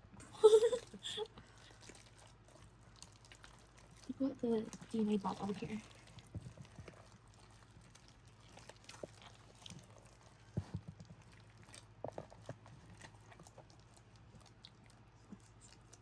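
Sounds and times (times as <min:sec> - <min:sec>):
slime squelching: 0:00.4 - 0:16.0.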